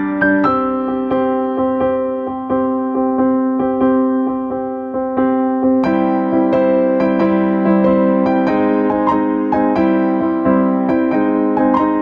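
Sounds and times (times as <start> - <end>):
slow electric piano music: 0.0 - 12.0.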